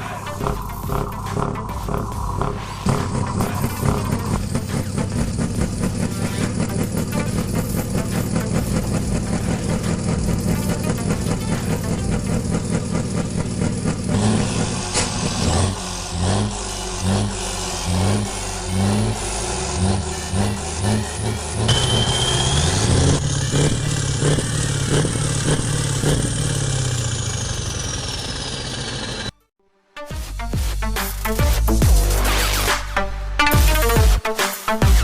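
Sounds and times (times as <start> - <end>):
truck engines revving: 0.0 - 29.4
engine pulses: 0.0 - 29.5.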